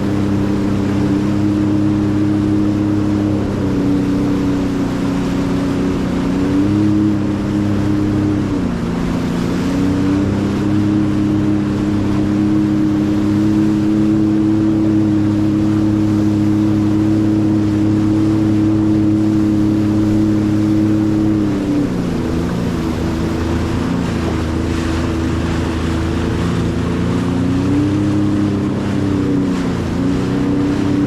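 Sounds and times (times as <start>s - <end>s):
jet ski engine: 0.0s - 31.0s
wind and water rushing: 0.0s - 31.0s.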